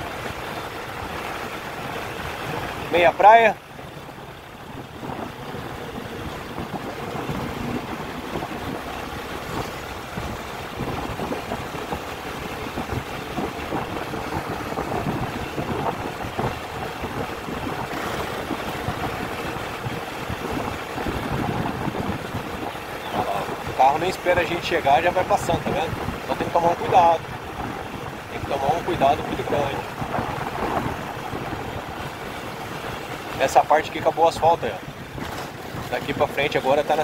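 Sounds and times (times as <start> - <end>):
vehicle road noise: 0.0 - 37.0
wind buffeting microphone: 0.0 - 37.0.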